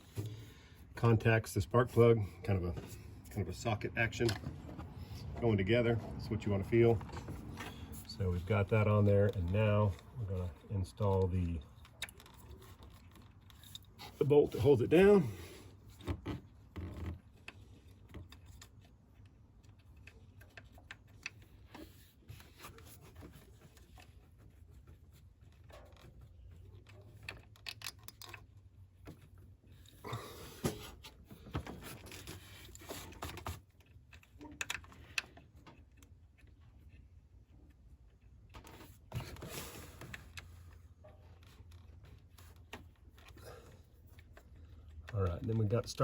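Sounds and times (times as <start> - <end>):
faint bolt clicks and scrapes: 0.0 - 46.0.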